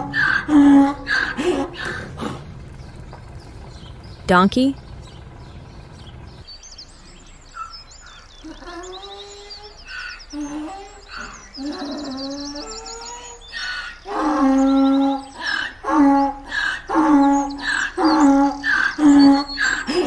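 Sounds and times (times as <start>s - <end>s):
donkey braying: 0.0s - 6.4s, 7.3s - 20.0s
birds chirping: 0.0s - 20.0s.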